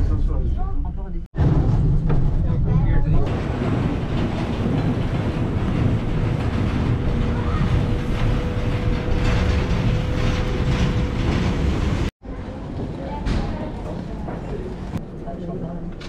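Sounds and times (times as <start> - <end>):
elevator mechanical rumble: 2.0 - 15.0.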